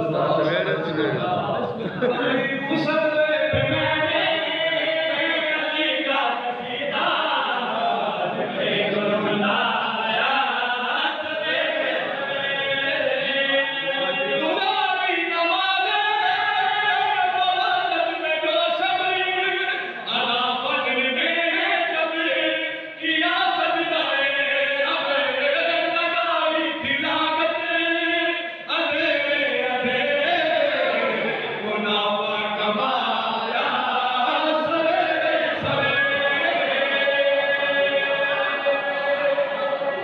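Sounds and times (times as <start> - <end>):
men chanting: 0.0 - 40.0
man singing into microphone: 2.0 - 40.0.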